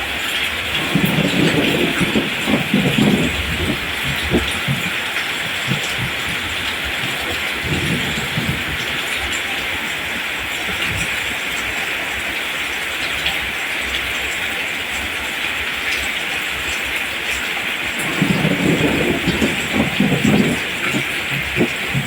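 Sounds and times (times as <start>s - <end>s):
steady rain on plants: 0.0s - 22.0s
low rumble of thunder: 0.1s - 12.3s, 16.5s - 22.0s.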